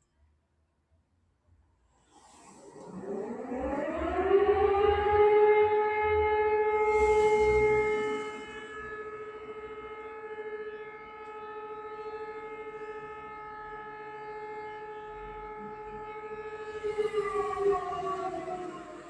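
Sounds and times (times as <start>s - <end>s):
warning siren winding down: 2.2s - 19.0s.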